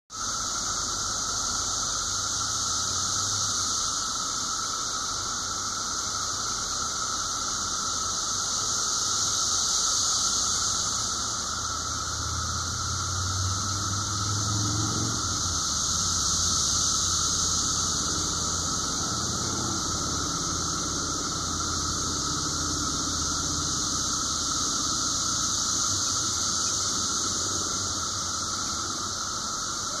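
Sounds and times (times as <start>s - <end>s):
cicadas droning: 0.0s - 30.0s
low steady whine: 0.2s - 30.0s.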